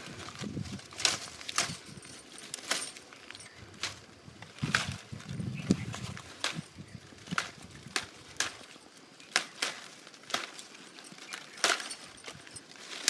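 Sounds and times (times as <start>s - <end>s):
tea leaves snapping: 2.4s - 13.0s.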